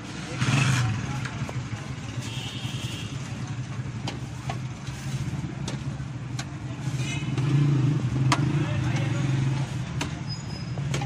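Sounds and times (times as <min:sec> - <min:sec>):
street traffic engine hum: 0:00.0 - 0:11.0.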